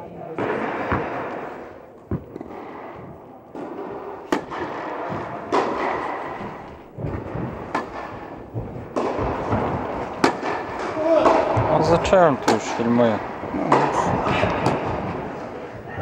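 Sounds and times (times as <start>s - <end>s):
tennis ball hit by rackets: 0.4s - 11.7s, 13.7s - 15.5s.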